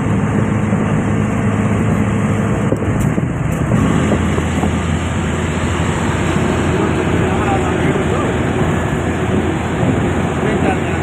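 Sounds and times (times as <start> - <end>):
road and wind noise: 0.0 - 11.0
vehicle engine running steadily: 0.0 - 11.0.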